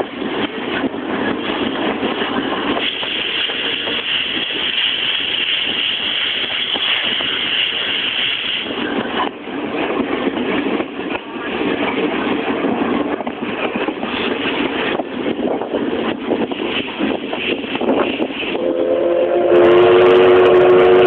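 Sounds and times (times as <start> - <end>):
steam hiss: 0.0 - 9.5, 13.4 - 21.0
steam train rumbling: 0.0 - 21.0.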